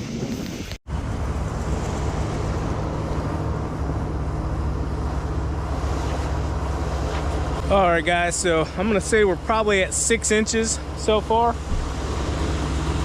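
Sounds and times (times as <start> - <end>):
road noise: 0.0 - 13.0
truck engine running: 0.9 - 13.0.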